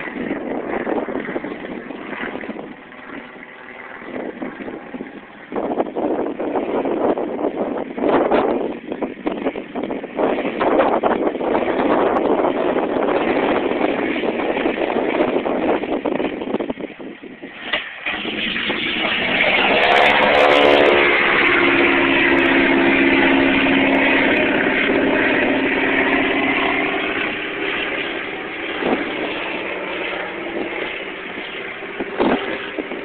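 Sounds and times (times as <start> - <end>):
plane engine passing: 0.0 - 16.6, 17.3 - 33.0.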